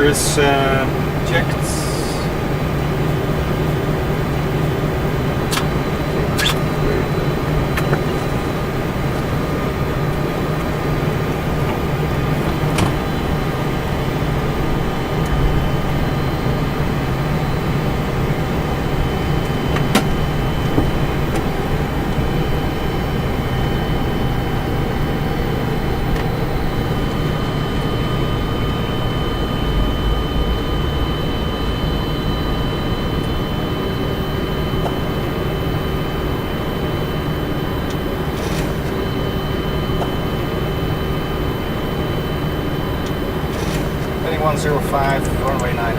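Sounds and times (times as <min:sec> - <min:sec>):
jet engines low hum: 0:00.0 - 0:45.9
steady whining tones: 0:00.0 - 0:45.9.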